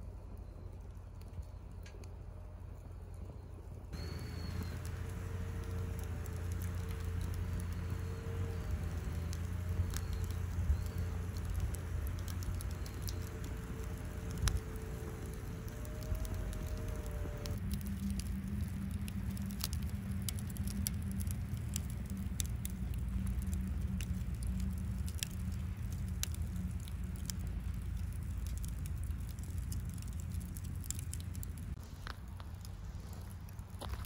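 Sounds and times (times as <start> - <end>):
light ticks and pops: 0.0 - 3.4, 4.0 - 34.0
low steady rumble: 0.0 - 34.0.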